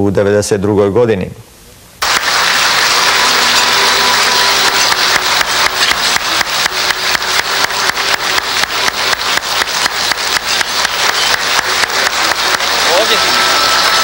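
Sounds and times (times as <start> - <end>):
crowd clapping in unison: 2.0 - 14.0.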